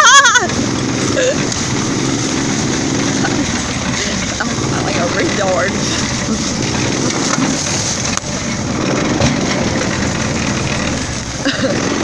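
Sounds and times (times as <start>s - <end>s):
golf cart engine running: 0.0s - 12.0s
tyres crushing sticks and leaves: 0.4s - 12.0s.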